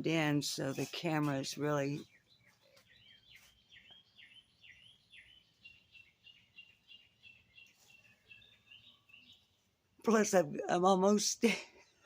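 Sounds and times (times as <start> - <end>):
bird chirping: 0.1 - 10.8.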